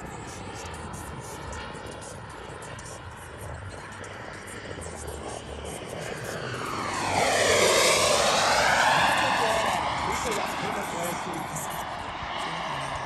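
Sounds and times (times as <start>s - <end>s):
distant jet turbine whine: 0.0s - 13.0s.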